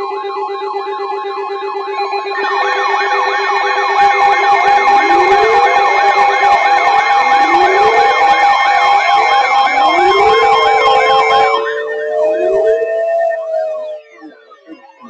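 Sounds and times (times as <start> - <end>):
siren wail: 0.0 - 15.0
fast electronic siren yelp: 1.6 - 15.0.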